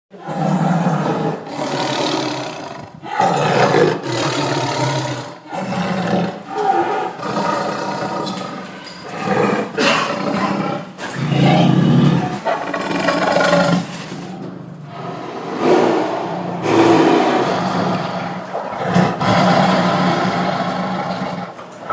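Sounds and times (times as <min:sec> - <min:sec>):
lion roaring: 0:00.1 - 0:21.9.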